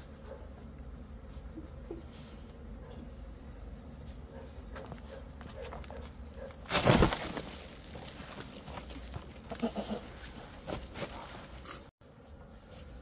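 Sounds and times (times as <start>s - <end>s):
digging and scraping in earth: 2.1s - 13.0s.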